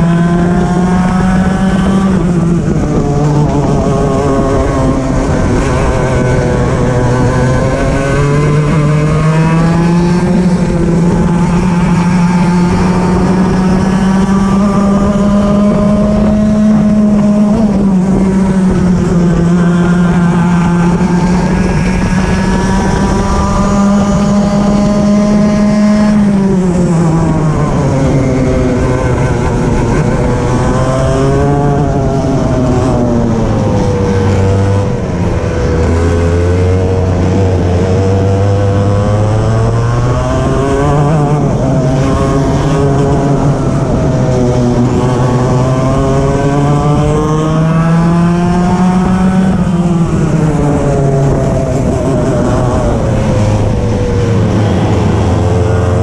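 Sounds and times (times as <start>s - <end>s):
racing kart engine: 0.0s - 56.0s.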